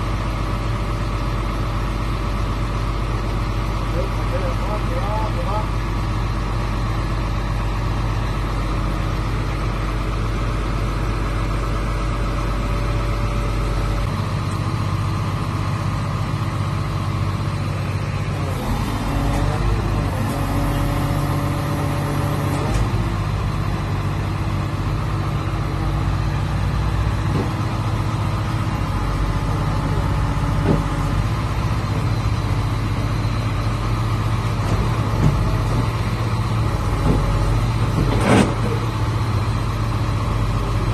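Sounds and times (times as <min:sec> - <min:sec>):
drilling rig engine humming: 0:00.0 - 0:40.9.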